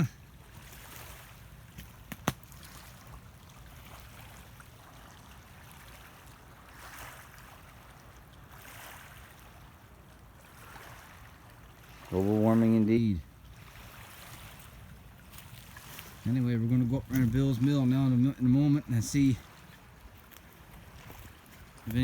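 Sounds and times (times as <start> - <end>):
water and wind hiss: 0.0 - 22.0.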